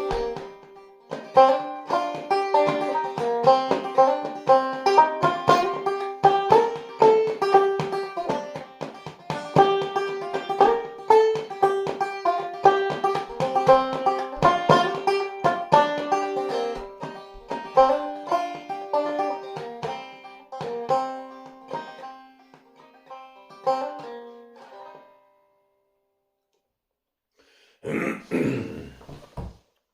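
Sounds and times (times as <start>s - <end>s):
banjo picking: 0.0s - 25.6s.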